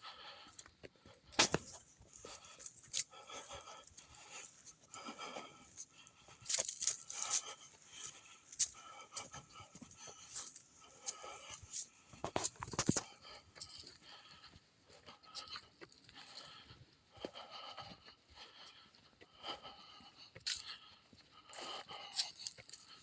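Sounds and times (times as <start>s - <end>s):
footsteps crunching on dry trail: 0.3s - 23.0s.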